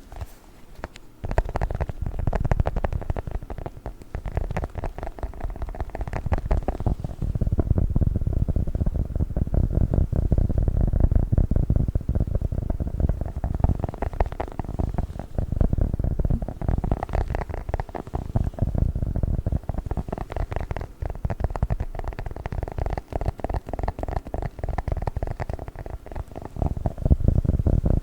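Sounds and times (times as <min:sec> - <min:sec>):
squishy toy crackles and squelches: 0:00.2 - 0:09.2, 0:12.1 - 0:28.0.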